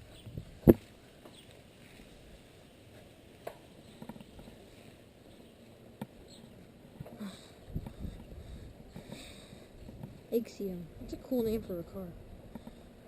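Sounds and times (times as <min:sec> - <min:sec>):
bicycle road noise: 0:00.0 - 0:13.0
wind: 0:00.0 - 0:13.0.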